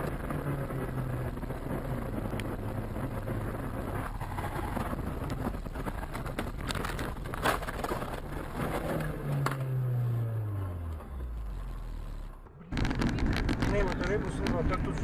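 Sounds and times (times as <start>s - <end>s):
car engine slowing: 0.0s - 15.0s
car road noise: 0.0s - 15.0s.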